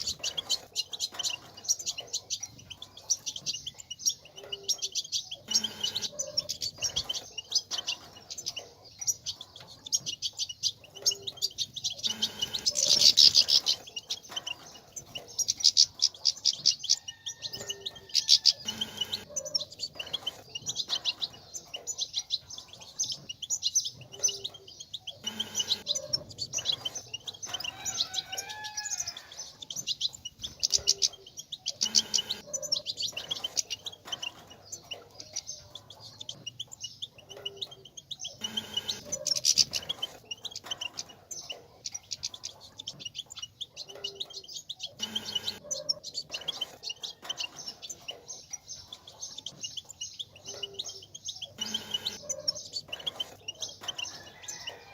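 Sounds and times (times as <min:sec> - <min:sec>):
finches twittering: 0:00.0 - 0:54.9.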